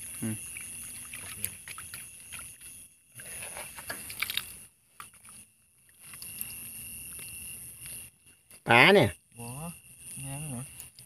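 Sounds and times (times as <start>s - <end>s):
pond water sloshing and splashing: 0.0s - 9.0s
night insects chirring: 0.0s - 11.0s.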